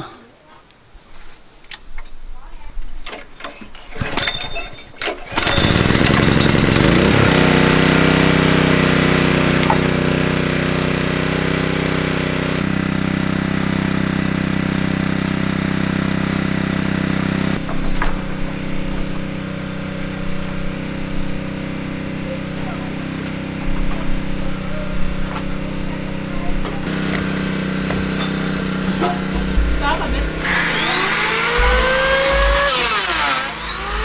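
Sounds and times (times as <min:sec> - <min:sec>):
small engine running: 0:05.3 - 0:34.0.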